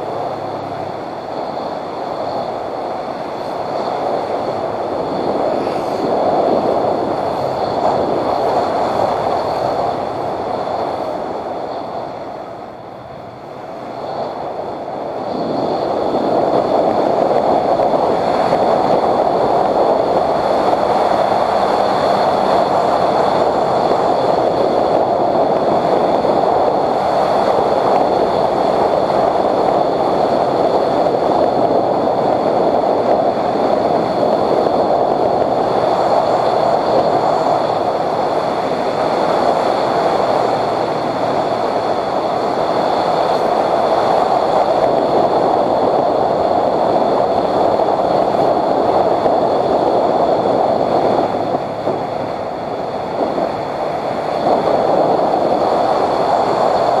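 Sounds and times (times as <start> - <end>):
faint high whine: 0.0 - 57.0
wind rushing: 0.0 - 57.0.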